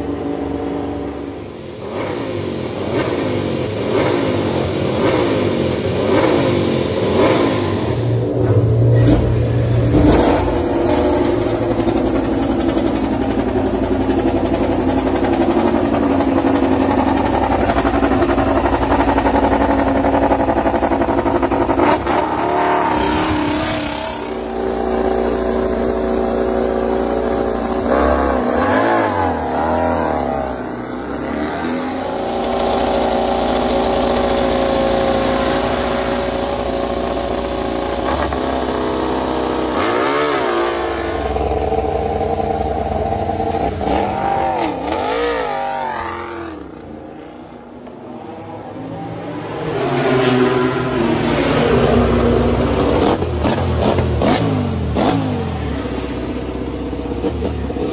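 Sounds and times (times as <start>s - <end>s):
racing motorcycle engines revving: 0.0s - 57.9s.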